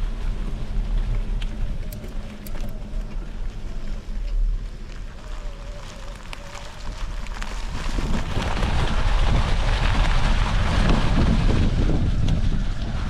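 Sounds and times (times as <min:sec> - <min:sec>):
bike rolling on trail: 0:00.0 - 0:13.0
wind buffeting microphone: 0:00.0 - 0:13.0.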